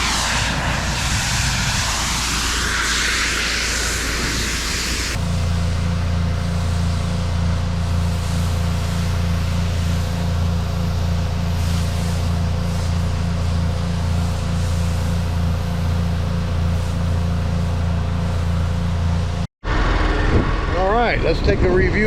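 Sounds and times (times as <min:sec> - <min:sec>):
pressure washer spray hissing: 0:00.0 - 0:19.2
low engine drone: 0:00.0 - 0:22.0.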